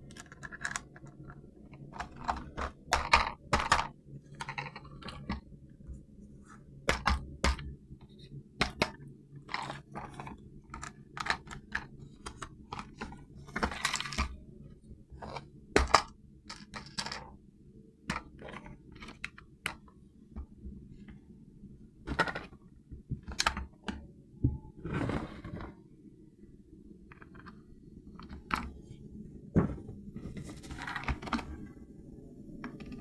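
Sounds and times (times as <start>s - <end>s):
faint low hum: 0.0s - 33.0s.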